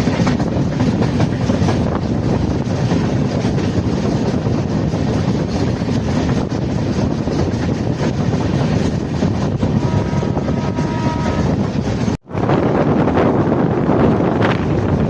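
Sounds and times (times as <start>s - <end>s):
moving train rumble: 0.0s - 15.0s
wind buffeting microphone: 0.0s - 15.0s.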